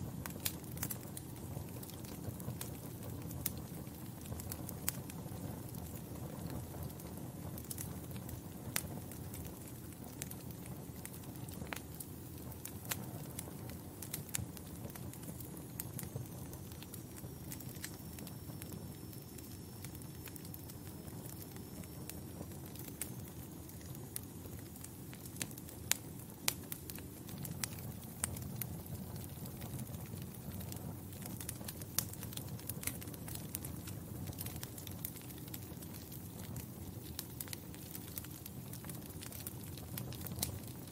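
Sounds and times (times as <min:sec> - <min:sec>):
sharp pops of fire: 0:00.0 - 0:40.9
wood fire crackling: 0:00.0 - 0:40.9.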